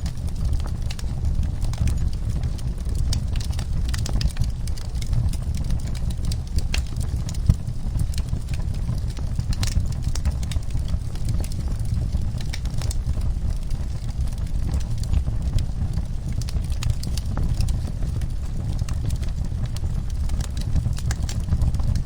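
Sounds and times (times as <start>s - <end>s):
low rumble of burning: 0.0s - 22.0s
wood fire crackling: 0.0s - 22.0s.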